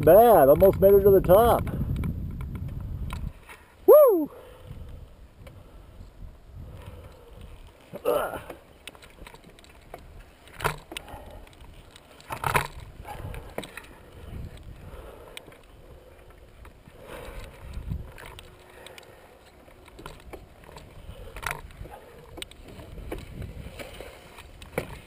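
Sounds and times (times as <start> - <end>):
wind rumbling on microphone: 0.0 - 7.8, 9.1 - 25.0.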